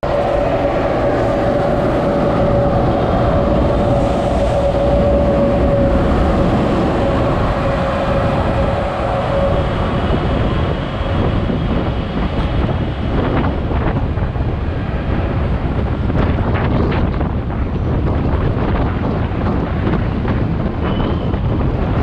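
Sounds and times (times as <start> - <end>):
car road and engine noise: 0.0 - 21.9.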